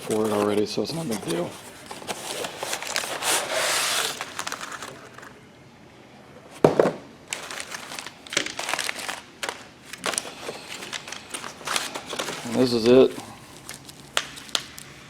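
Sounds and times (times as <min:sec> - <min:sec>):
plastic packaging crinkling: 0:00.0 - 0:05.4, 0:07.3 - 0:15.0.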